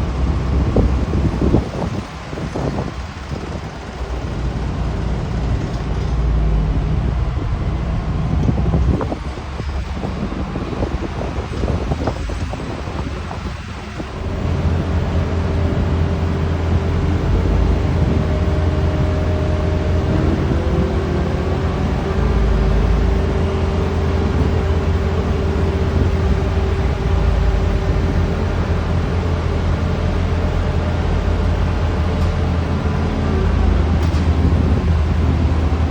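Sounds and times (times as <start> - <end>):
diesel engine drone: 0.0 - 35.9.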